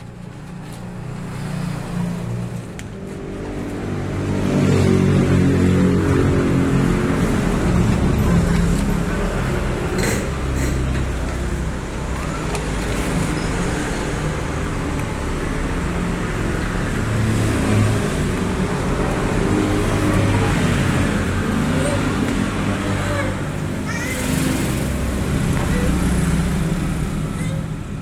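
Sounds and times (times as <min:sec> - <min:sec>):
vehicle engine low rumble: 0:00.0 - 0:24.0.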